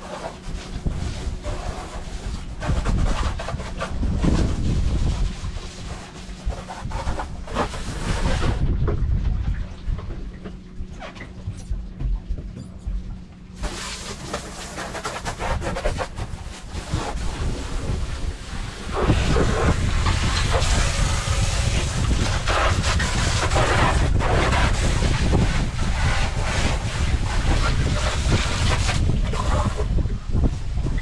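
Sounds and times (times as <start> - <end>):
water spraying from hose: 0.0 - 8.6, 13.6 - 30.8
wind buffeting microphone: 0.0 - 13.8, 15.2 - 31.0.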